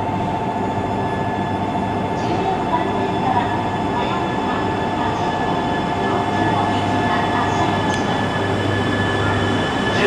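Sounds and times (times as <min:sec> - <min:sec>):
train rumble and hiss: 0:00.0 - 0:10.0.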